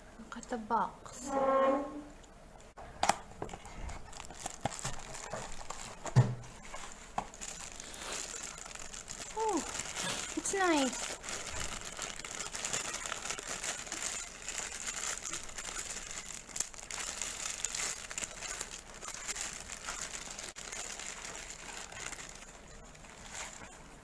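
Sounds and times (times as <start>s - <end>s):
packaging crinkling and rustling: 2.8s - 24.0s.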